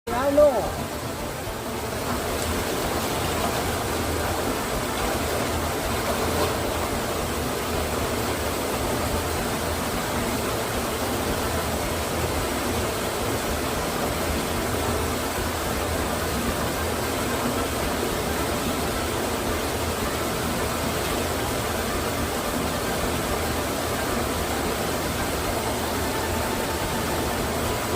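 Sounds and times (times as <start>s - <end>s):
waterfall rushing: 0.1s - 27.9s.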